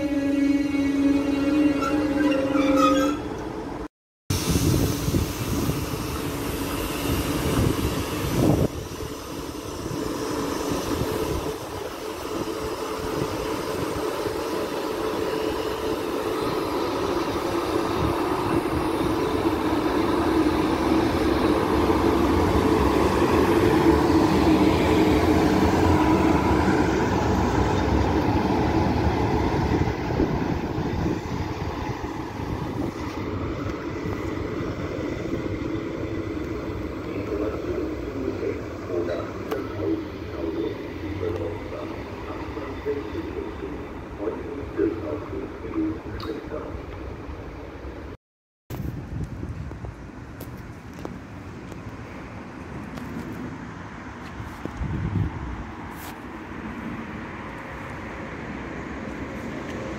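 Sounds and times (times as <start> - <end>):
train running past: 0.0 - 48.2, 49.9 - 59.9.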